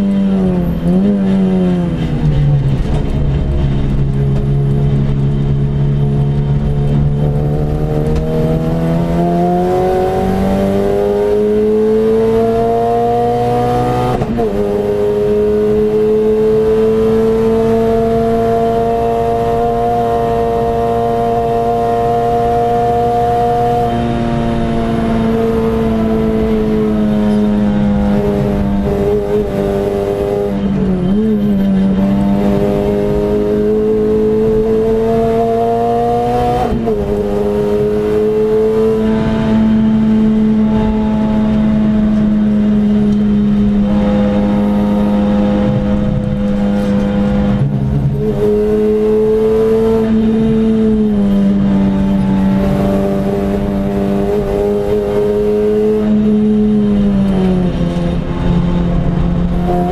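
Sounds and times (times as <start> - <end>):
car engine at high revs: 0.0 - 59.9
road and wind noise: 0.0 - 59.9.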